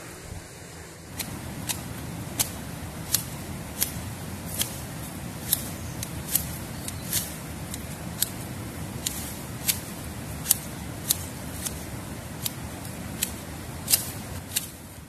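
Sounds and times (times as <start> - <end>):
hand shears snipping vegetation: 1.1 - 15.0.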